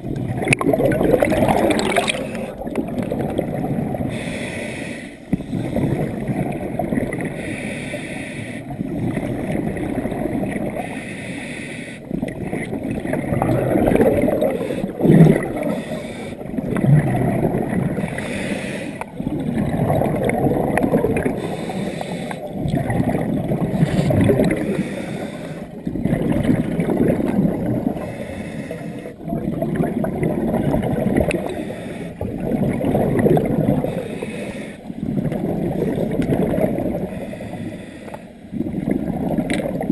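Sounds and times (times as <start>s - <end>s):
diver exhaling bubbles: 0.0s - 4.3s, 5.4s - 7.4s, 12.1s - 37.2s, 38.5s - 39.9s.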